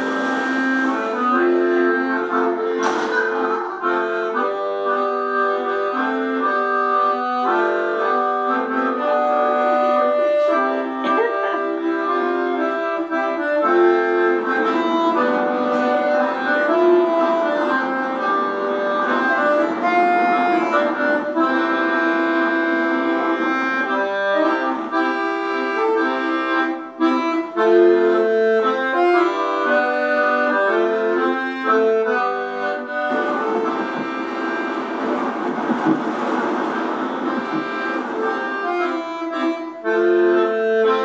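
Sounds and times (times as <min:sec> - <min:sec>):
accordion music: 0:00.0 - 0:41.0.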